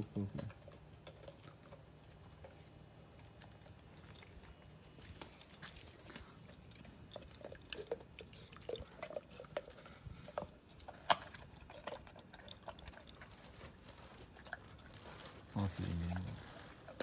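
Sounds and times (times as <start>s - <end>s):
dog chewing and crunching food: 0.0s - 17.0s.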